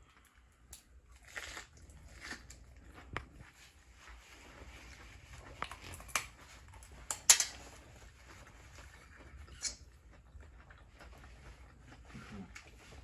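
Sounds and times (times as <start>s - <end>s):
food crunching: 0.0s - 3.6s, 4.4s - 13.0s.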